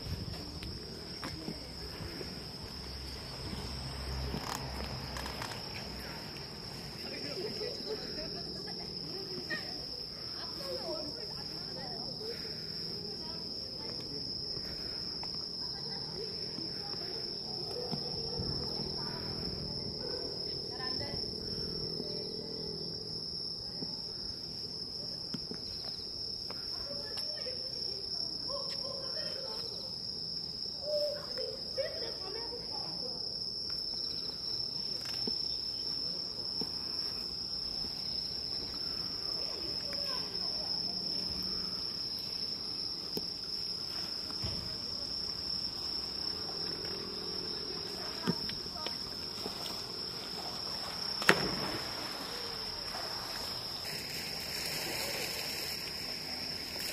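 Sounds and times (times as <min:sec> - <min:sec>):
insects singing: 0:00.0 - 0:56.9.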